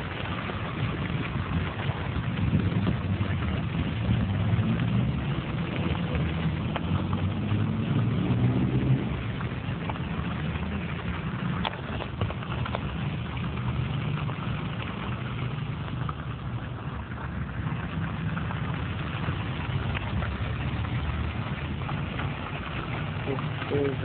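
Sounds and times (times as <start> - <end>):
low rumble and hum: 0.0 - 24.0.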